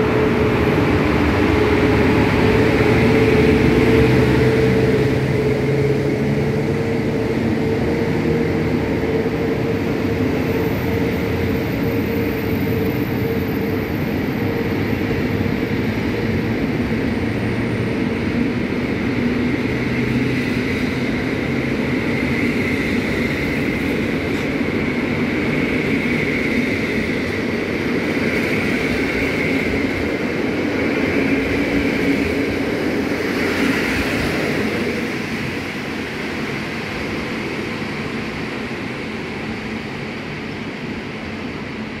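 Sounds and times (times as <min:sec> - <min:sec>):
train wheels rolling on track: 0:00.0 - 0:42.0.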